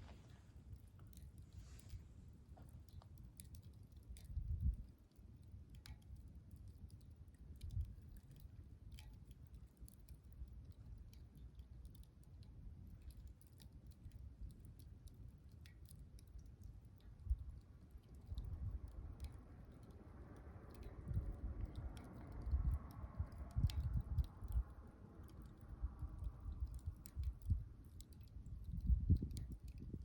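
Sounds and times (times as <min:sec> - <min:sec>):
campfire crackling and popping: 0:02.6 - 0:30.0.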